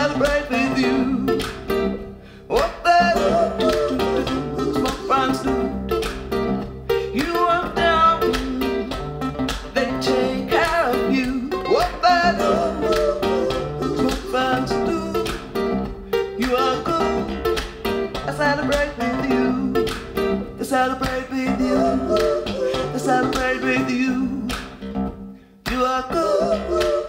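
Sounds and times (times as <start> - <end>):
acoustic guitar music from a record: 0.0 - 27.0.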